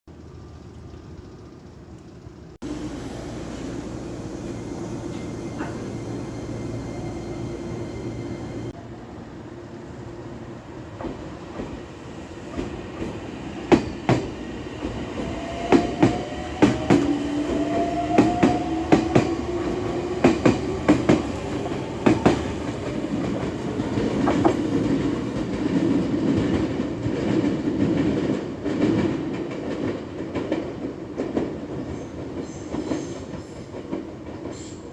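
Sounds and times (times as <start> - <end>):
train rolling rumble: 0.1 - 34.9.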